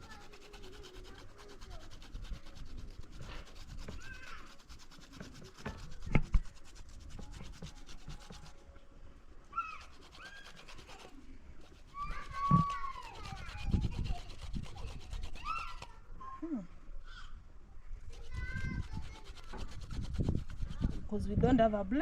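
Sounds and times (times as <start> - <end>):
ginger scratching on grater: 0.0 - 8.6, 9.6 - 16.0, 18.1 - 21.3.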